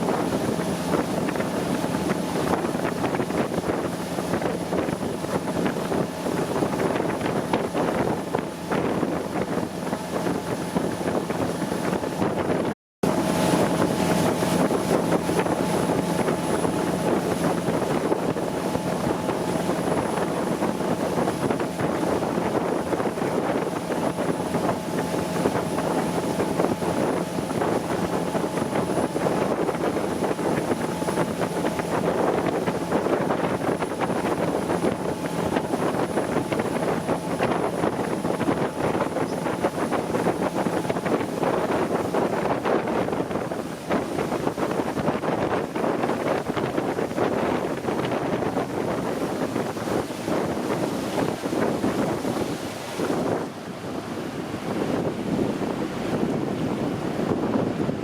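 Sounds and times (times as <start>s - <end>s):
motorboat engine running: 0.0s - 58.0s
water rushing past hull: 0.0s - 58.0s
wind buffeting microphone: 0.0s - 58.0s.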